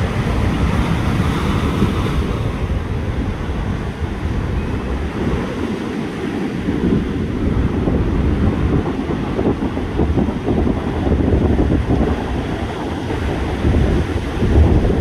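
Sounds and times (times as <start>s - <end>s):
rough sea surf breaking: 0.0s - 15.0s
wind buffeting microphone: 0.0s - 15.0s.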